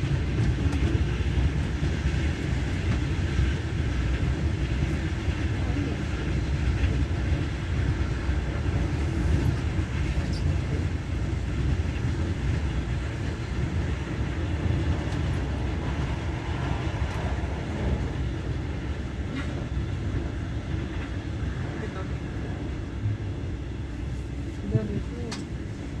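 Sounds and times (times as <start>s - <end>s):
train rumble inside carriage: 0.0s - 26.0s.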